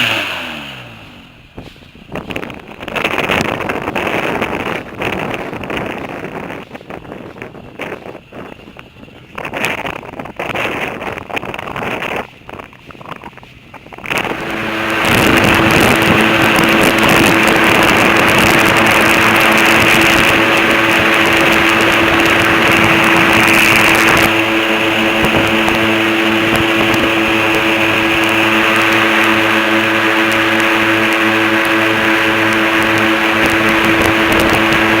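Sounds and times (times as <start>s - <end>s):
airboat engine and propeller: 0.0s - 35.0s
wind buffeting microphone: 0.0s - 35.0s.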